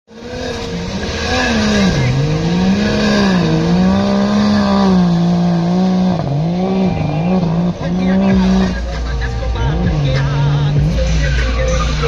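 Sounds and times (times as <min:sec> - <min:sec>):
car engine at high revs: 0:00.1 - 0:12.0.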